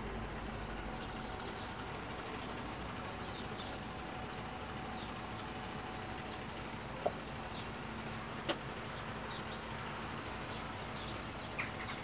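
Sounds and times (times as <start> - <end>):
distant truck engine hum: 0.0 - 12.0
outdoor noise: 0.0 - 12.0.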